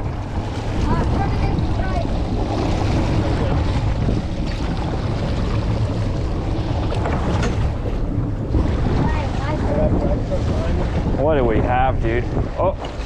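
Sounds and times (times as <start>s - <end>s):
outboard motor running: 0.0s - 13.0s
water washing around boat: 0.0s - 13.0s
wind buffeting microphone: 0.0s - 13.0s.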